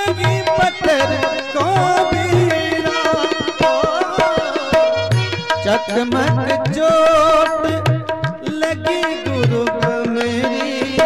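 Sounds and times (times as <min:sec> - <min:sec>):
tabla playing rhythm: 0:00.0 - 0:11.0.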